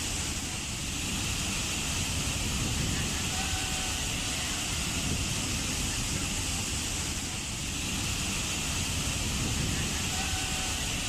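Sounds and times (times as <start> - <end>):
waterfall rushing onto rock: 0.0 - 11.0.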